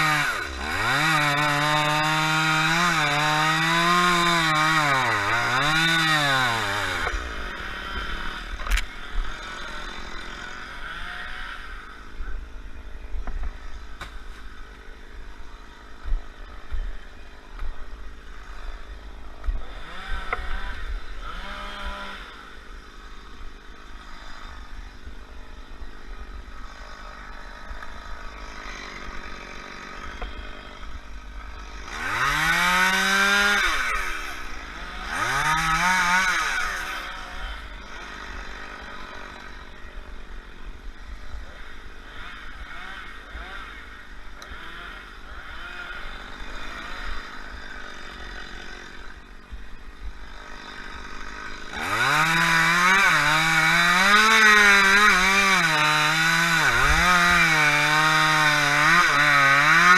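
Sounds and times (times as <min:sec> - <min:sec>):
chainsaw revving: 0:00.0 - 0:12.3, 0:18.1 - 0:59.9.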